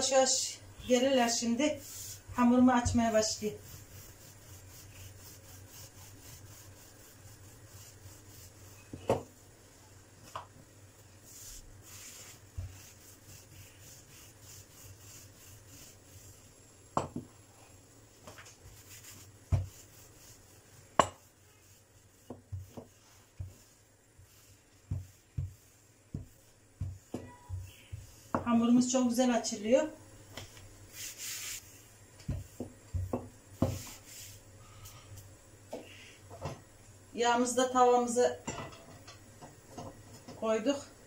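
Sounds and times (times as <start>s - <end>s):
rolling pin rubbing on dough: 0.0s - 35.0s.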